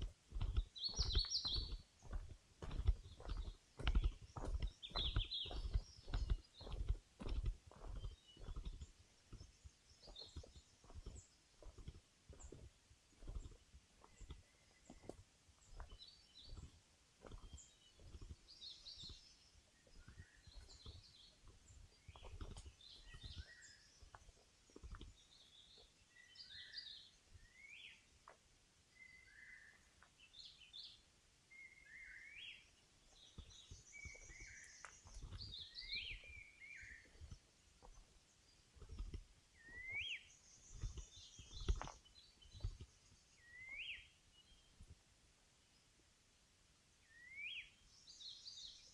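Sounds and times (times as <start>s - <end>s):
footsteps on trail: 0.0s - 28.4s, 32.4s - 44.0s
forest birds chirping and whistling: 0.4s - 28.2s, 28.9s - 44.9s, 46.9s - 48.9s.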